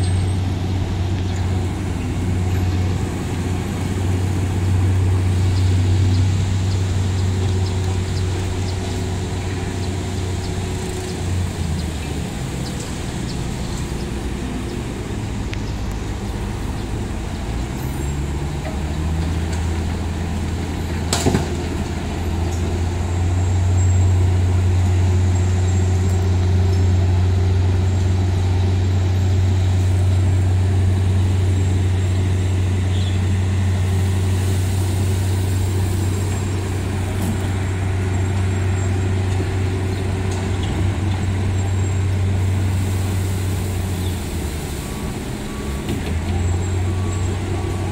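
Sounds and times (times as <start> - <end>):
heavy diesel engine droning: 0.0 - 47.9.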